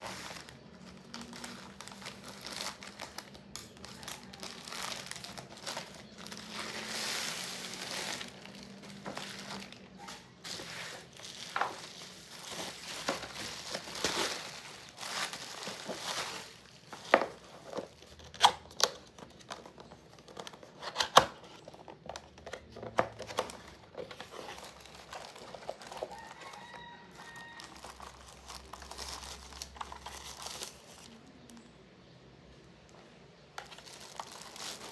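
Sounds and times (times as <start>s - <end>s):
packaging crinkling and tearing: 0.0s - 31.7s, 33.5s - 34.9s.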